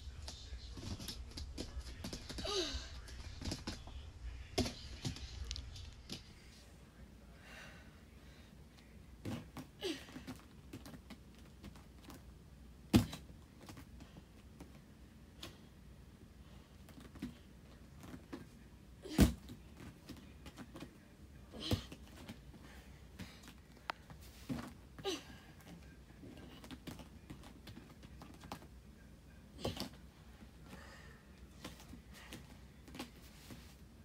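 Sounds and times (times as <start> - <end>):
low room hum: 0.0 - 34.0.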